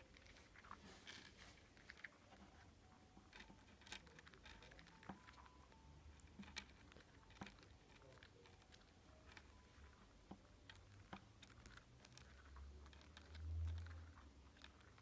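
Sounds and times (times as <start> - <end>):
seeds clicking on wooden table: 0.0 - 15.0.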